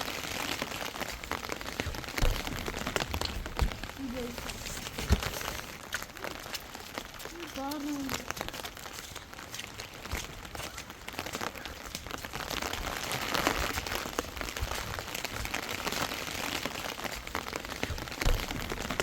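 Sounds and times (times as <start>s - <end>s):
rain falling on a surface: 0.0s - 19.0s.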